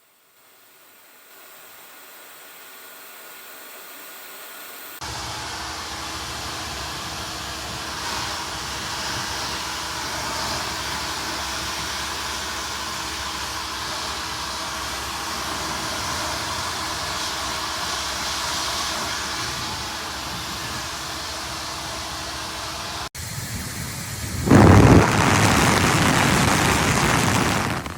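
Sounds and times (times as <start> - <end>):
hair dryer blowing air: 1.2 - 27.9.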